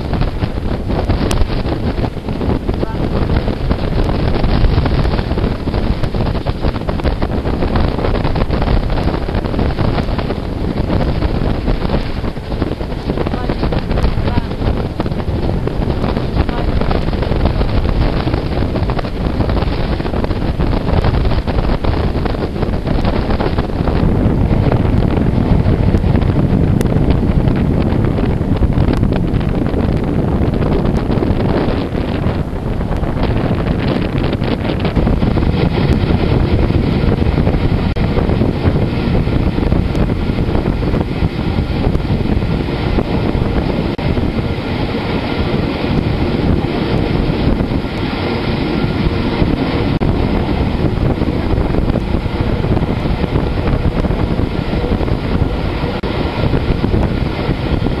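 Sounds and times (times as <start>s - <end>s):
train running rumble: 0.0s - 58.0s
wind buffeting microphone: 0.0s - 58.0s.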